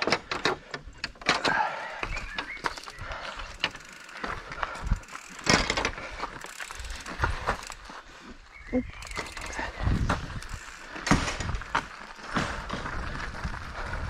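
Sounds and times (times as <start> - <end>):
mountain bike rattling over trail: 0.0 - 14.0.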